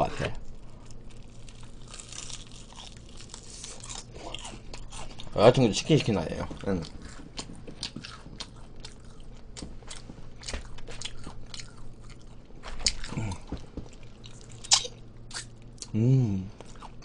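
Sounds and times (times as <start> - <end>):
crispy fried chicken crunching: 0.3 - 16.0.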